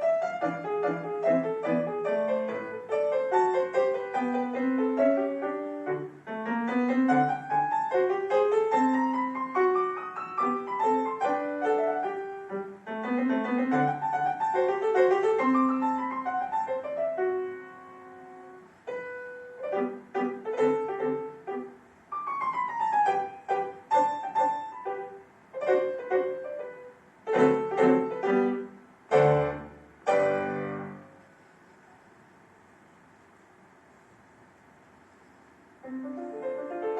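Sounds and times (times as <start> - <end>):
solo classical piano: 0.0 - 32.0, 35.0 - 36.9.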